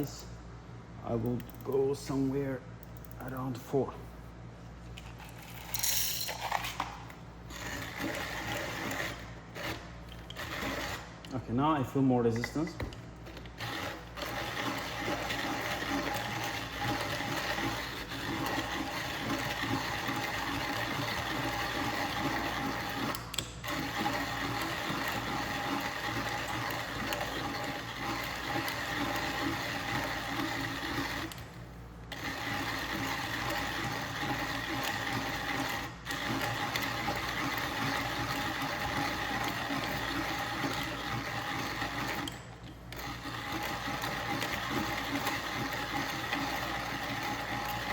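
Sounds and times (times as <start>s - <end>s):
hand coffee grinder grinding beans: 5.0s - 11.4s, 12.4s - 31.5s, 32.1s - 47.9s.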